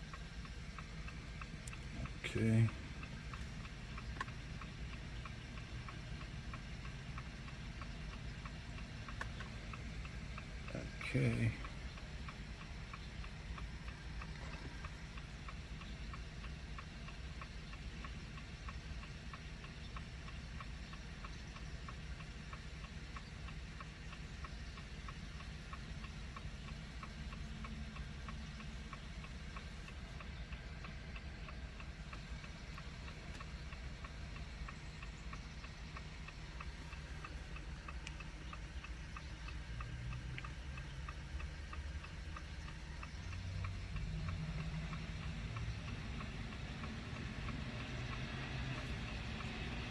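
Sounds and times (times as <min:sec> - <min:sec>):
hazard light flasher ticking: 0:00.0 - 0:49.9
low background rumble: 0:00.0 - 0:49.9.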